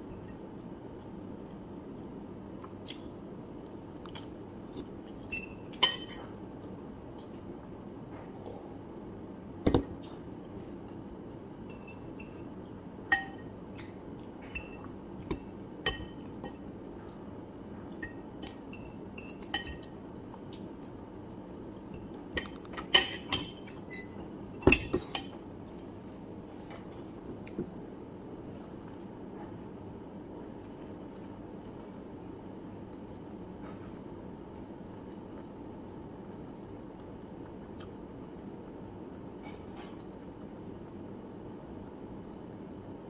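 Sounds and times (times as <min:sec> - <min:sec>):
low background hum: 0:00.0 - 0:43.0.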